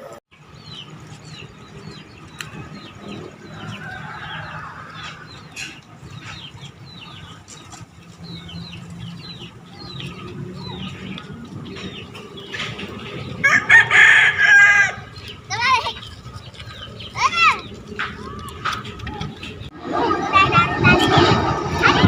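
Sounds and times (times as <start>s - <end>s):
birds chirping: 0.0s - 22.0s
chickens clucking: 0.0s - 22.0s.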